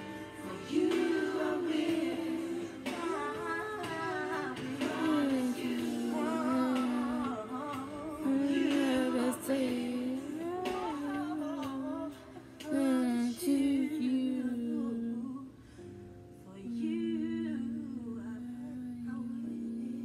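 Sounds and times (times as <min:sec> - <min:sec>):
woman singing wordless melody: 0:00.0 - 0:20.0.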